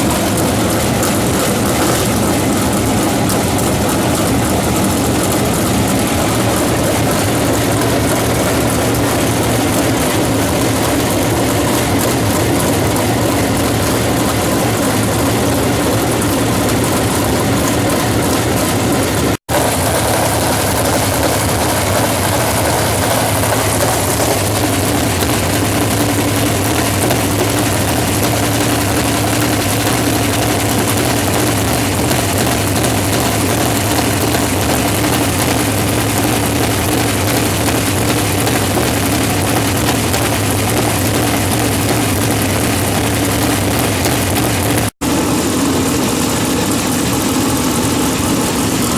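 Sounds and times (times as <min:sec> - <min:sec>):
race car engines: 0:00.0 - 0:48.9.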